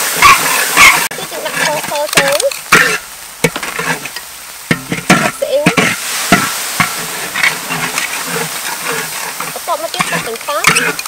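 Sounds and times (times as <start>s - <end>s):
metal spatula scraping wok: 0.0s - 11.0s
paste sizzling in hot oil: 0.0s - 11.0s.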